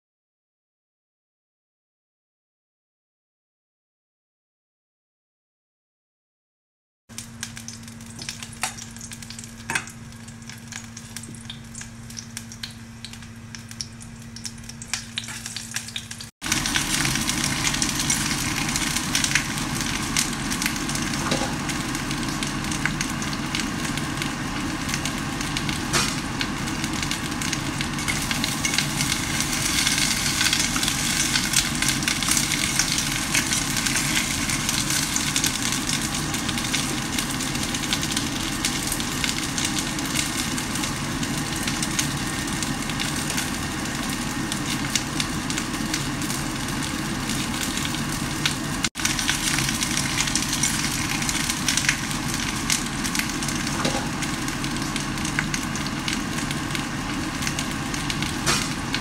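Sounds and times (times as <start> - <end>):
hot oil sizzling with frying fish: 7.1 - 59.0
low steady hum: 7.2 - 59.0.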